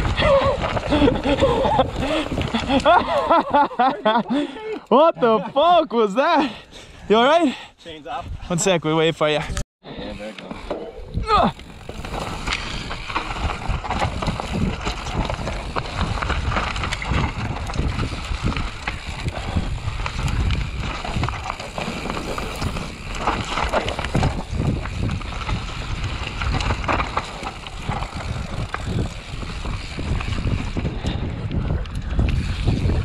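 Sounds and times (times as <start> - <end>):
bike knocking and rattling: 0.0 - 4.0, 10.4 - 33.0
bicycle tyres rumbling on dirt: 0.0 - 4.6, 10.4 - 33.0.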